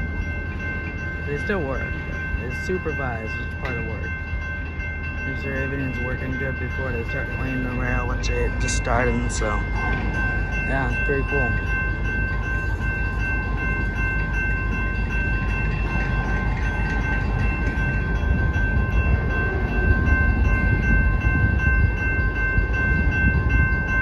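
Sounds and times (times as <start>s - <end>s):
freight train rumbling: 0.0s - 24.0s
high-pitched tones ringing: 0.0s - 24.0s.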